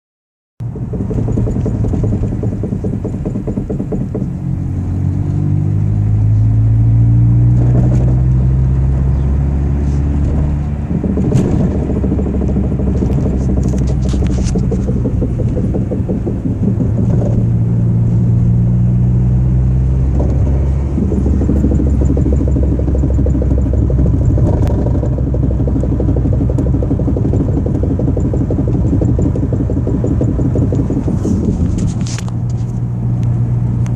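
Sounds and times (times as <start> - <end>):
engine knocking: 0.6 - 5.5, 7.5 - 33.9
vehicle engine revving: 0.6 - 33.9.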